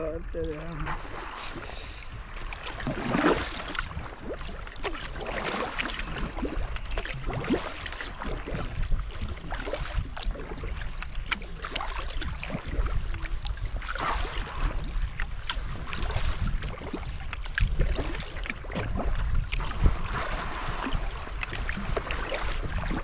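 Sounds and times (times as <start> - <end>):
water trickling around kayak: 0.0 - 23.0
paddle strokes splashing water: 0.3 - 23.0.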